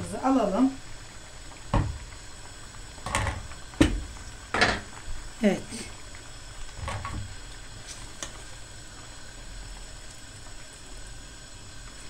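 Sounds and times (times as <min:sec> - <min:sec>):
pot boiling: 0:00.0 - 0:12.0.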